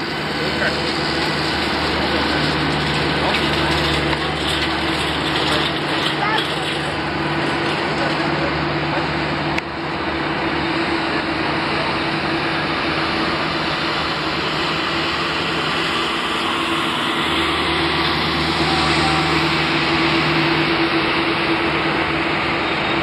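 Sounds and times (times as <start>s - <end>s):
airliner mechanical drone: 0.0s - 23.0s.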